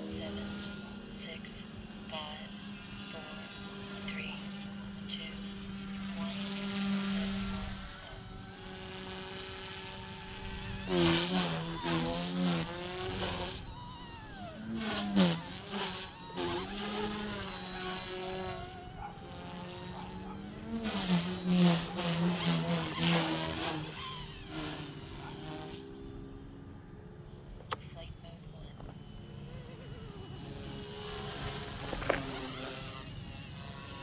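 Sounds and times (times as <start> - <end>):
model helicopter rotor whine: 0.0 - 34.0.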